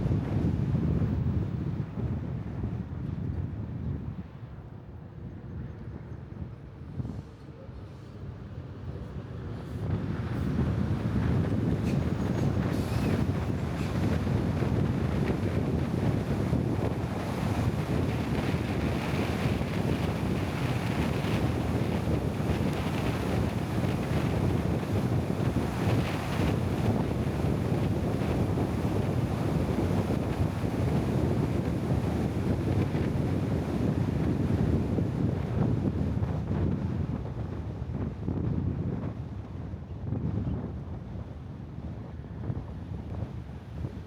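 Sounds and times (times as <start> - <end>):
wind noise on microphone: 0.0 - 44.0.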